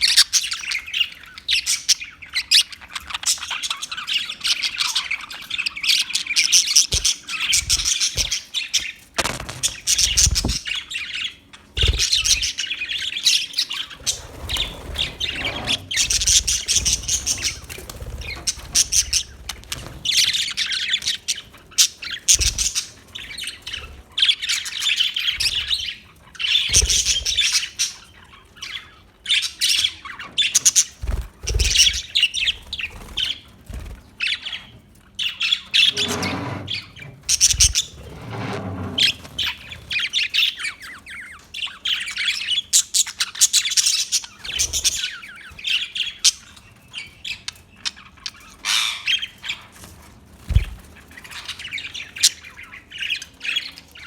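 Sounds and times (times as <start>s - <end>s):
budgerigars chirping: 0.0s - 38.2s, 39.0s - 49.7s.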